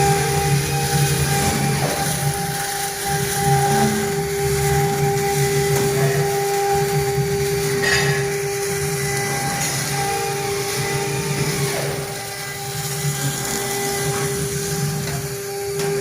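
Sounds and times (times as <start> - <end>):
router spindle whine and grinding: 0.0 - 16.0.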